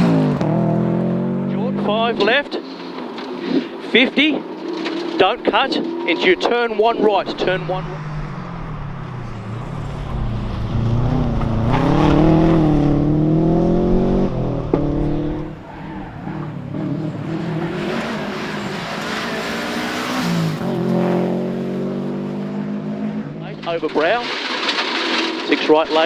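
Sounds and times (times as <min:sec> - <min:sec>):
car engine accelerating: 0:00.0 - 0:03.4, 0:04.3 - 0:25.4.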